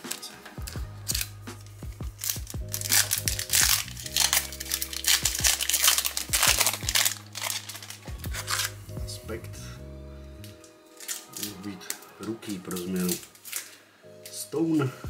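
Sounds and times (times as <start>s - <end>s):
foil wrapper tearing and crinkling: 0.0s - 8.8s, 10.9s - 14.4s
background music: 0.0s - 15.0s.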